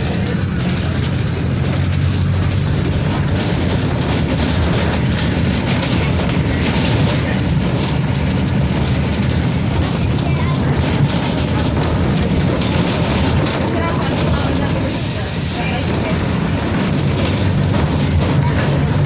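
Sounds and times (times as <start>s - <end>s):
bus diesel engine droning: 0.0s - 19.0s
road and body noise: 0.0s - 19.0s.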